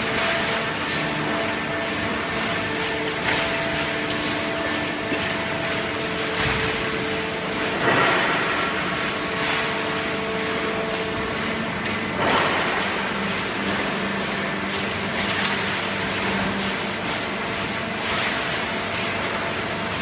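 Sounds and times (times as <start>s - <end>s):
hydraulic baling press humming: 0.0s - 20.0s.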